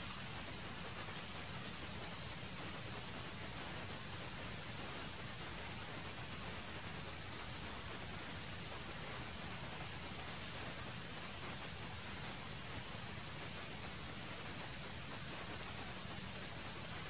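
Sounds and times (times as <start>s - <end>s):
background hiss: 0.0s - 17.0s
insects droning: 0.0s - 17.0s.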